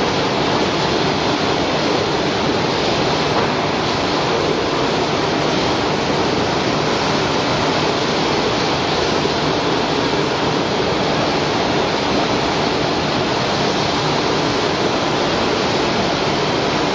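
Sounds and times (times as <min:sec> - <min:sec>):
production line rushing noise: 0:00.0 - 0:16.9.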